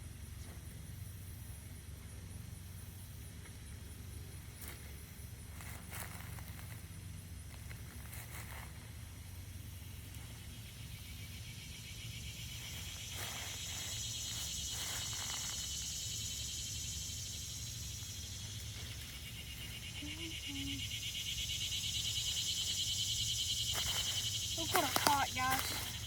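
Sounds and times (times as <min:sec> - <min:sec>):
insects buzzing: 0:00.1 - 0:26.0.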